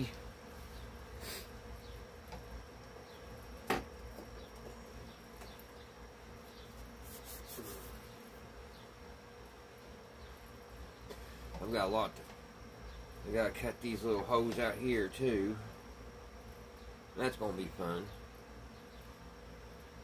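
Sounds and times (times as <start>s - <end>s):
faint buzzing hum: 0.0s - 20.0s.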